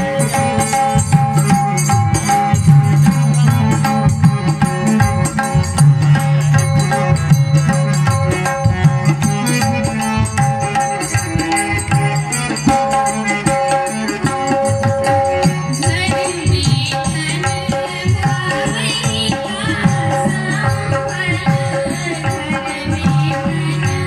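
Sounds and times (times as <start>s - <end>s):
harmonium holding notes: 0.0s - 24.0s
tabla rhythm: 0.0s - 24.0s.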